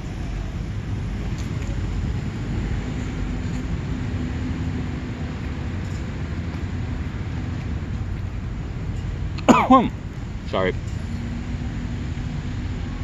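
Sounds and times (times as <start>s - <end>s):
faint engine hum: 0.0s - 13.0s
street traffic rumble: 0.0s - 13.0s.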